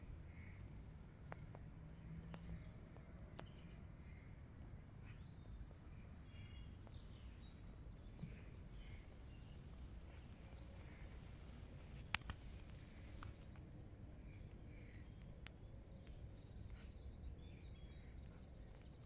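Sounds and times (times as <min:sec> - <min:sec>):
distant bird calls: 0:00.0 - 0:19.0.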